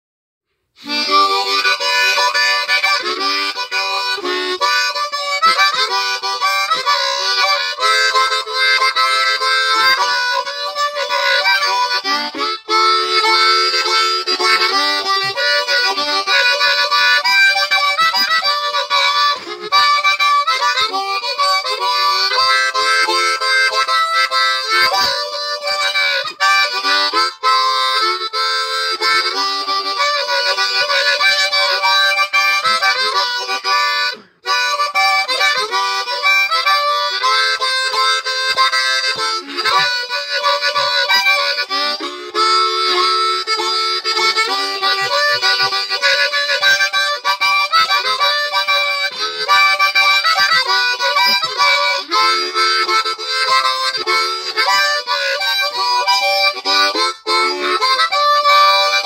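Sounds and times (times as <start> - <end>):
harmonica playing upbeat tune: 0.7 - 59.0.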